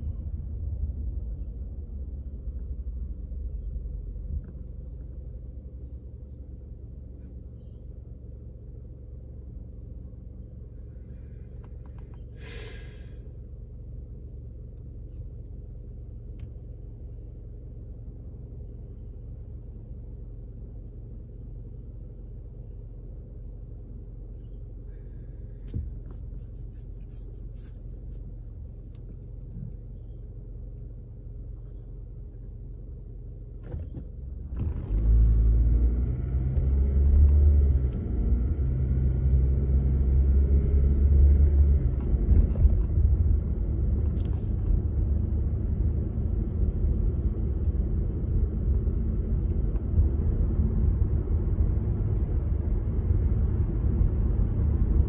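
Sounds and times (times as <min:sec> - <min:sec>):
car cabin low hum: 0:00.0 - 0:55.0
car engine and road rumble: 0:00.0 - 0:55.0.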